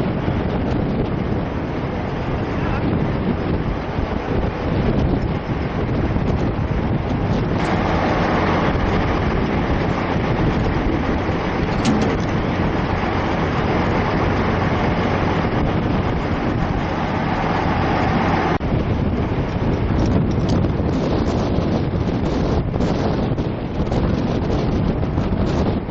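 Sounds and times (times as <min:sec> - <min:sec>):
motor vehicle noise: 0:00.0 - 0:25.9
wind on microphone: 0:00.0 - 0:25.9.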